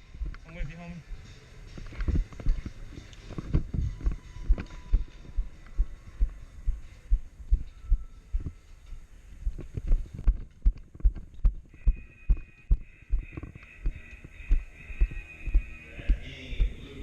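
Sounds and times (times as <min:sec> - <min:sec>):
footsteps low thuds: 0:01.7 - 0:08.6, 0:09.4 - 0:16.8.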